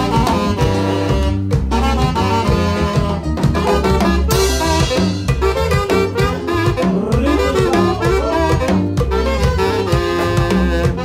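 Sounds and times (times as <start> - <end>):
bass line: 0.0 - 11.0
drum kit beat: 0.0 - 11.0
keyboard melody: 0.0 - 11.0.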